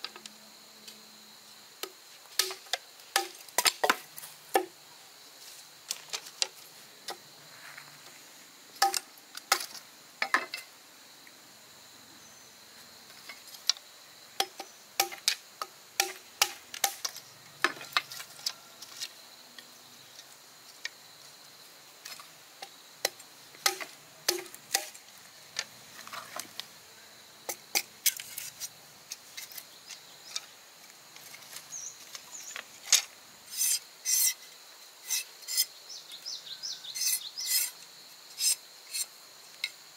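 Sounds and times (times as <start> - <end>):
faint high hiss: 0.0 - 39.9.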